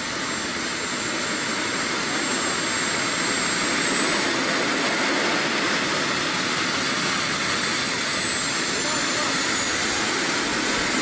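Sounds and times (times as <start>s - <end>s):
high turbine whine: 0.0s - 11.0s
small jet turbine running: 0.0s - 11.0s.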